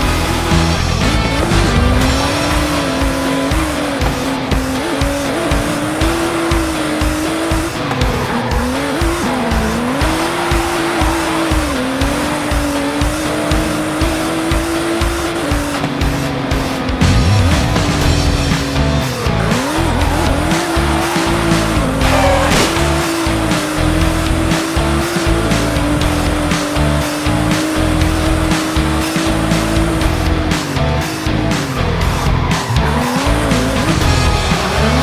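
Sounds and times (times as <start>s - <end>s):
background music with steady beat: 0.0s - 35.0s
motor revving: 0.0s - 35.0s.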